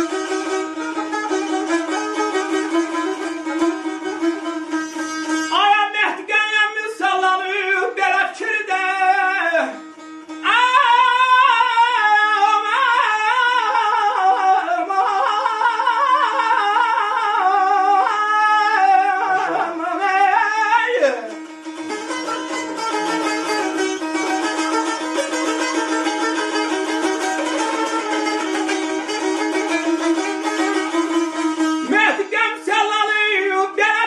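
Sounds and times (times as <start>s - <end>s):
plucked lute drone: 0.0s - 5.6s, 9.4s - 33.8s
man singing melismatic melody: 5.3s - 34.0s.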